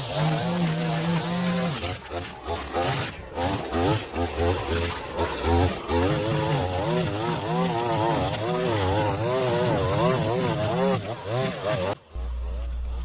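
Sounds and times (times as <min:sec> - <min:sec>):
two-stroke chainsaw revving: 0:00.0 - 0:13.0.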